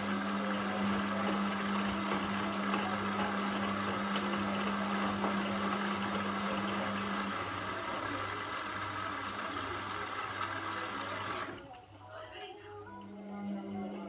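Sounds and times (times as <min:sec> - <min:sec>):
washing machine drum humming: 0:00.0 - 0:14.0.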